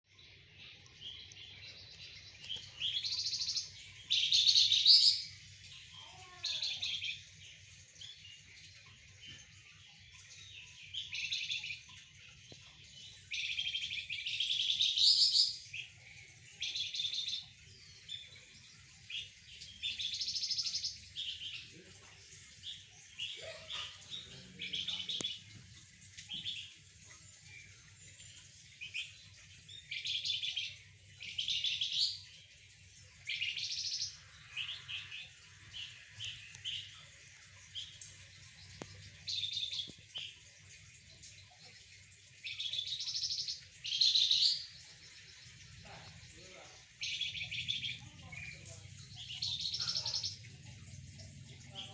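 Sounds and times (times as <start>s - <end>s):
songbird chirping: 0.0s - 51.9s.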